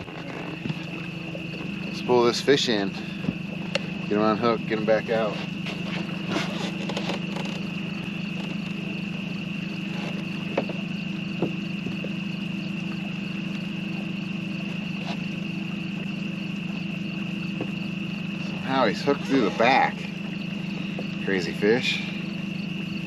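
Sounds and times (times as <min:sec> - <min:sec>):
insects chorus: 0:00.0 - 0:23.0
steady low hum: 0:00.0 - 0:23.0.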